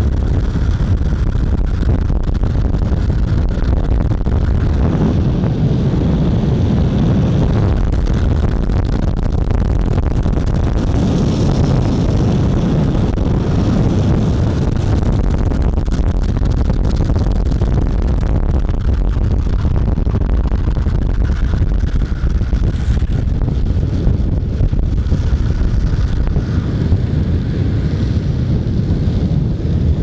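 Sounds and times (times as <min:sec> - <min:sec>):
skateboard wheels rolling on asphalt: 0:00.0 - 0:30.0
wind noise on microphone: 0:00.0 - 0:30.0.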